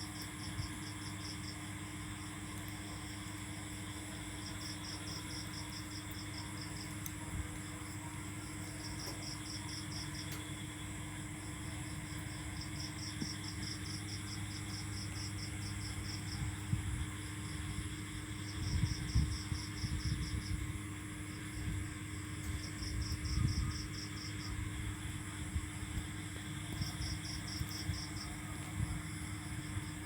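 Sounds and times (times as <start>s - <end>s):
insect chirping in pulses: 0.0s - 30.0s
low rumble and hum: 0.0s - 30.0s.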